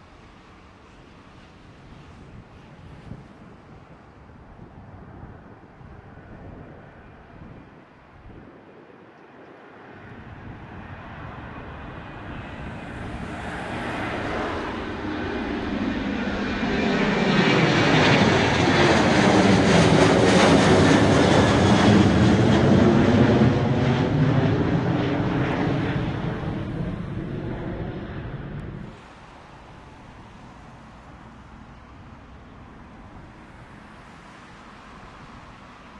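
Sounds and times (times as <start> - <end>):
jet engines of plane overhead: 0.0 - 35.9.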